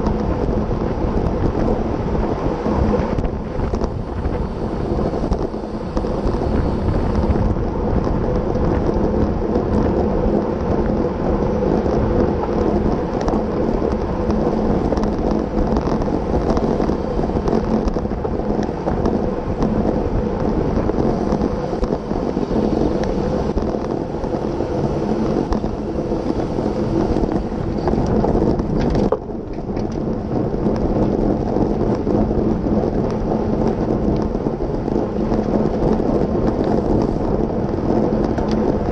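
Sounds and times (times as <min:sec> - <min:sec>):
bike tyres rumbling on pavement: 0:00.0 - 0:38.9
wind buffeting microphone: 0:00.0 - 0:38.9.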